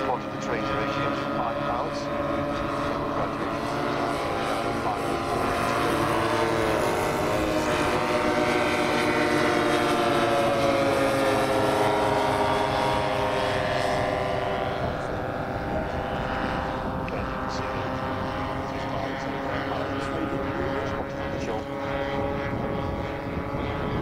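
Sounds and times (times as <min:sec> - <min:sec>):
model aircraft engines flying past: 0:00.0 - 0:24.0.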